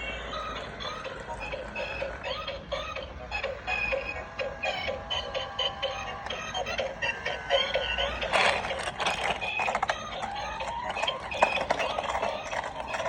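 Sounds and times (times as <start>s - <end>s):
tinny electronic toy music: 0.0s - 13.0s.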